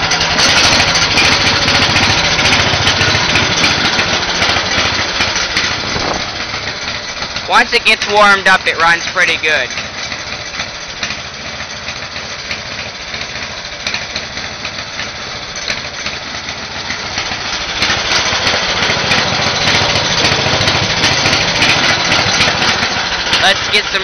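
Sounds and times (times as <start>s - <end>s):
garden tractor engine running: 0.0s - 24.0s.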